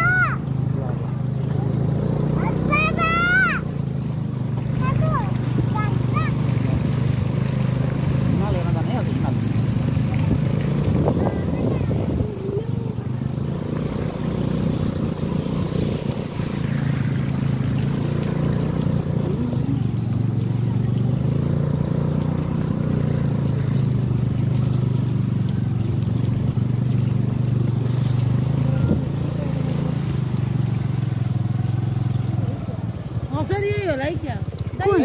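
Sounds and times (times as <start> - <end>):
motor scooter engine running: 0.0 - 35.0.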